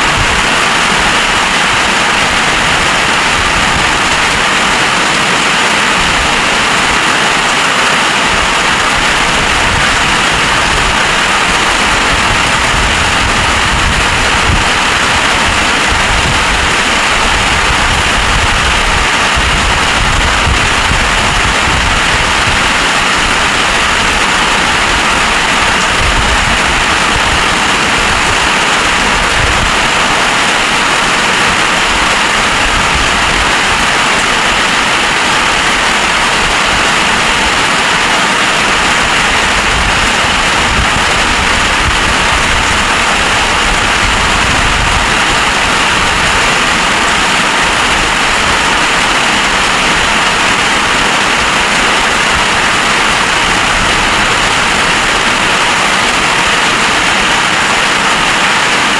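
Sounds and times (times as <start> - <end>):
heavy rain pouring: 0.0 - 58.9
wind rumbling on microphone: 0.0 - 58.9.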